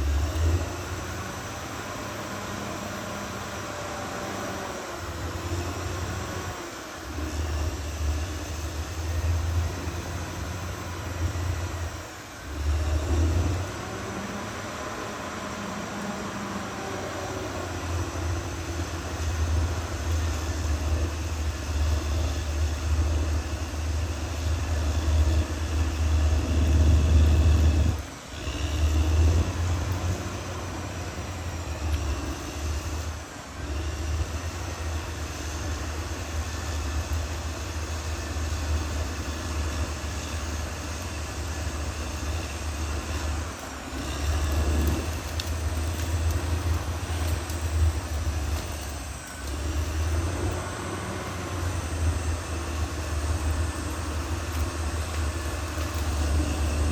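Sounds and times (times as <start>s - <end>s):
bulldozer diesel engine droning: 0.0s - 56.9s.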